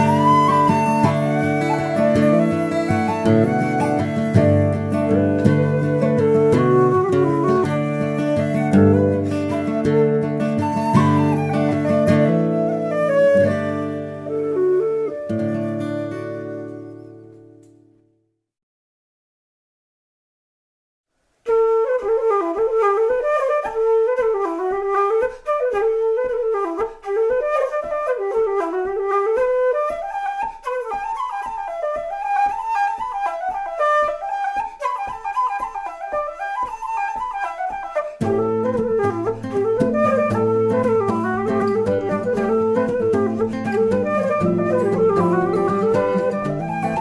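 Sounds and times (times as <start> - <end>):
flute-like melody: 0.0 - 17.8, 21.4 - 47.0.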